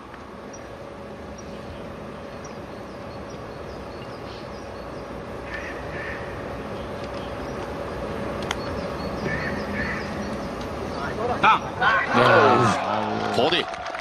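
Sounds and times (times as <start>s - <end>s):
background hiss: 0.0s - 12.5s
birds chirping: 0.0s - 12.5s
harsh bird calls: 0.4s - 12.8s.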